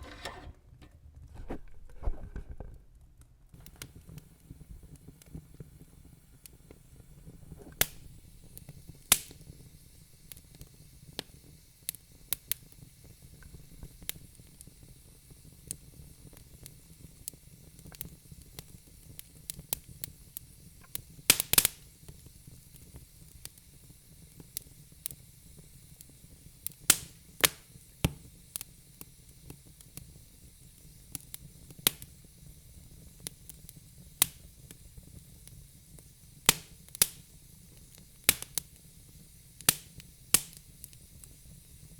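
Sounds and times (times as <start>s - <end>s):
low steady hiss: 2.9s - 41.9s
wood fire crackling: 2.9s - 41.9s.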